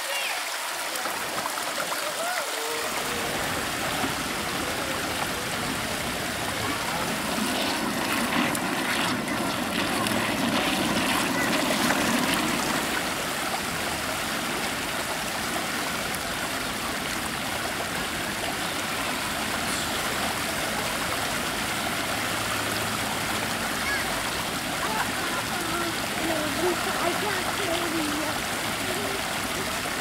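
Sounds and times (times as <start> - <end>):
water rushing down channel: 0.0 - 30.0.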